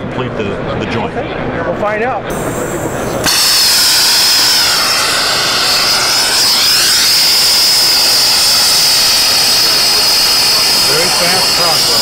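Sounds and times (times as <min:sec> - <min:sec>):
hand torch hissing: 0:02.3 - 0:12.0.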